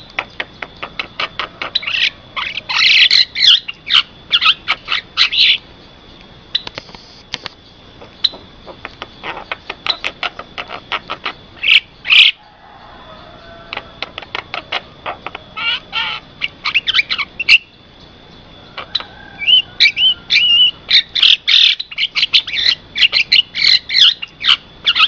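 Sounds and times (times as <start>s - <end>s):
bird harsh chattering: 0.2s - 5.6s, 8.0s - 12.5s, 13.4s - 17.8s, 18.7s - 25.0s.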